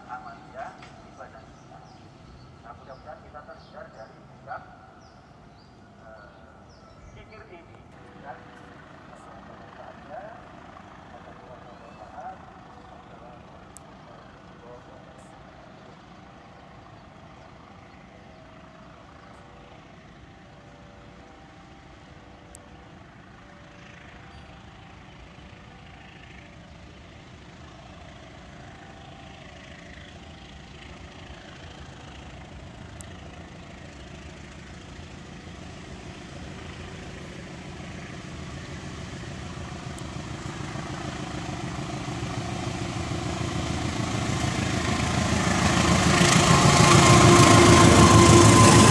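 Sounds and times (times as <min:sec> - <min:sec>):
diesel locomotive engine rumble: 0:00.0 - 0:48.9.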